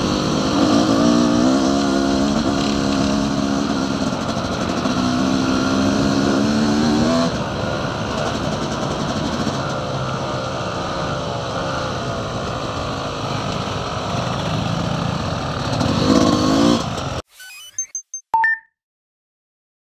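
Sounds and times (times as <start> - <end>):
dirt bike engine revving: 0.0 - 17.2.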